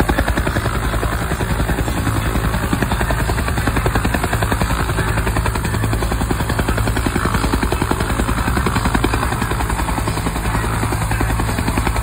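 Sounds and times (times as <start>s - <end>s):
helicopter rotor blades beating: 0.0s - 12.0s.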